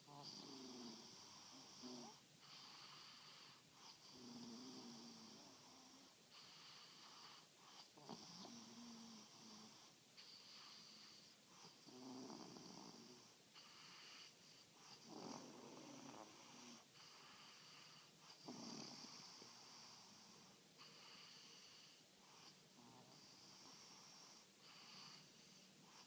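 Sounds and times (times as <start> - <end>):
faint slow snoring: 0.0 - 26.0.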